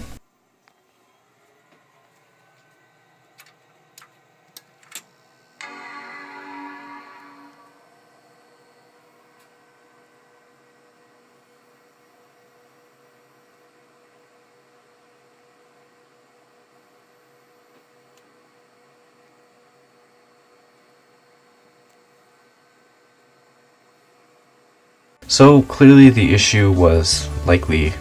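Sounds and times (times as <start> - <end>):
computer electrical hum: 0.0 - 28.0.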